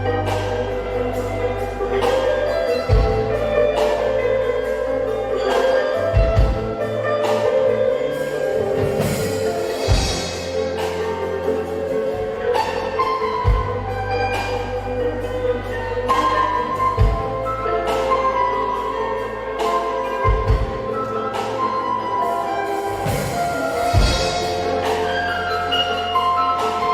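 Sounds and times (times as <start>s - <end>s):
band music: 0.0s - 26.9s
plucked zither: 0.0s - 26.9s.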